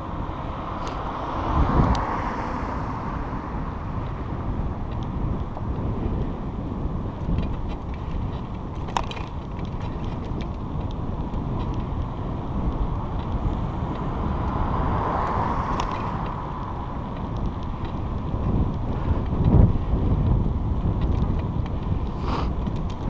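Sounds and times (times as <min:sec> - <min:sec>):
bicycle clicks and rattles: 0:00.0 - 0:01.2, 0:03.1 - 0:23.0
wind buffeting microphone: 0:00.0 - 0:23.0.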